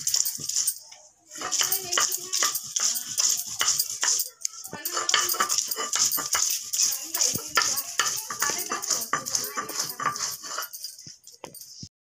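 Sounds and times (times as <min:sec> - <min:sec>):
stone grinding scraping strokes: 0:01.4 - 0:11.8.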